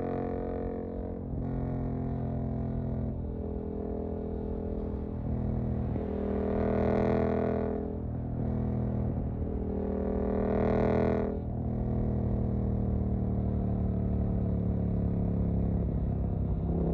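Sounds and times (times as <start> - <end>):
motorcycle engine under throttle: 3.2 - 16.9.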